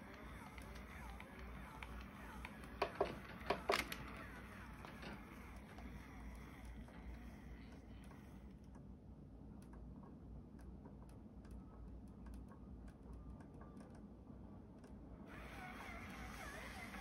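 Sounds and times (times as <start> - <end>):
faint ticking clicks: 0.0 - 17.0
low steady hum: 0.0 - 17.0.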